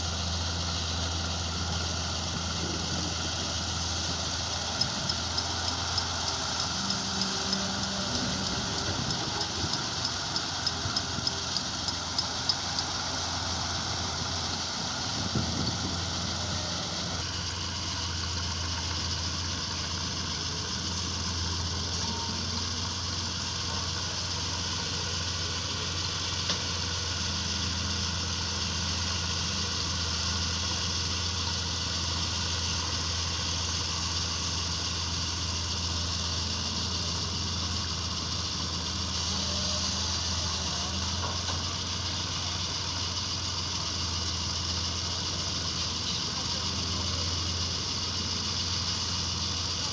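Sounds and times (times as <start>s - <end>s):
heavy machinery diesel engine running: 0.0s - 49.9s.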